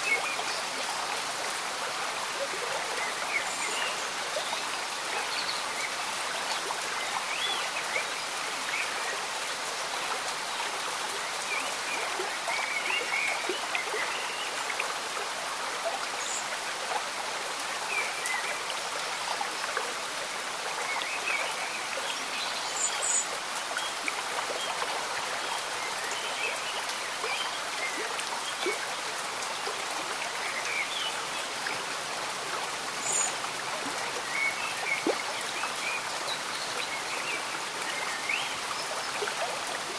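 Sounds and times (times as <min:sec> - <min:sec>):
gentle rain pattering: 0:00.0 - 0:39.9
stream bubbling and gurgling: 0:00.0 - 0:39.9.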